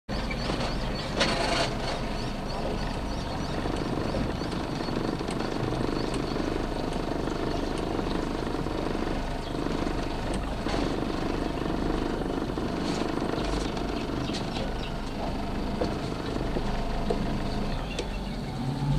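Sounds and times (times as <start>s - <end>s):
outboard motor idling: 0.1s - 18.9s.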